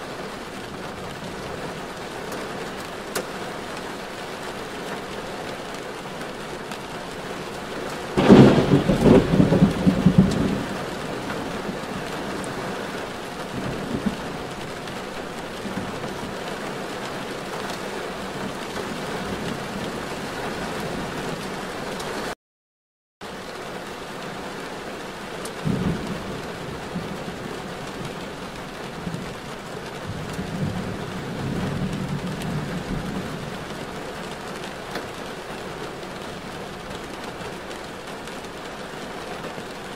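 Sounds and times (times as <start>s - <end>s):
heavy rain while driving: 0.0s - 22.4s, 23.2s - 39.9s.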